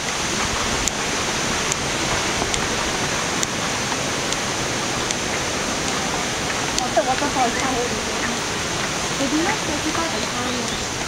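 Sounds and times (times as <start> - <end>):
waterfall rushing water: 0.0 - 11.0.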